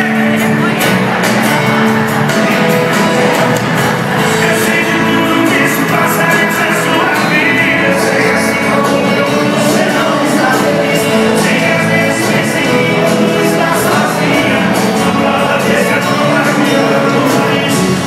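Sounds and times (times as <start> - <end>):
live band playing: 0.0 - 18.0
person singing: 0.0 - 18.0.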